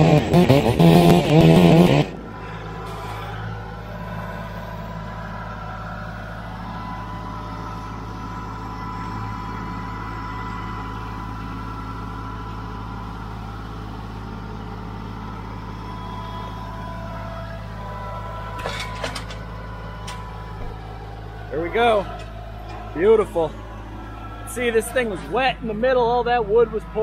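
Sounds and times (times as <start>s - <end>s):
tractor diesel engine running: 0.0s - 27.0s
thin high whine: 1.2s - 27.0s.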